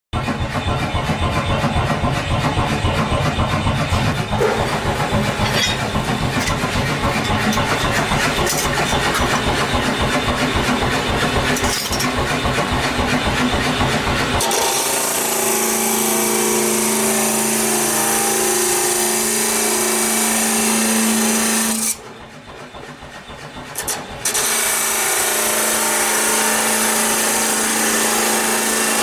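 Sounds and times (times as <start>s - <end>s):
workshop machinery beating: 0.1s - 29.0s.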